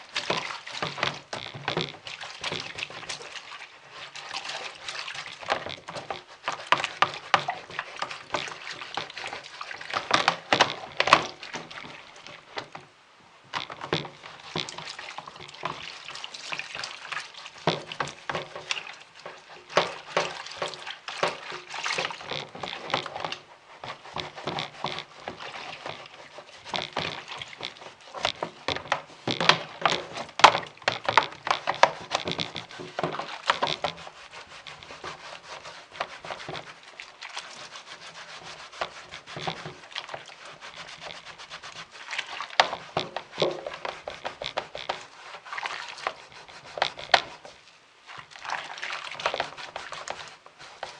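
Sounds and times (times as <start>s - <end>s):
scrubbing and scraping fan blades: 0.0s - 50.9s.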